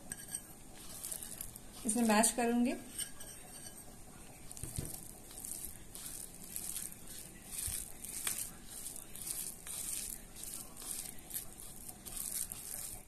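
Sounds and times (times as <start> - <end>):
hand squishing wet food: 0.7 - 3.0, 4.2 - 13.0.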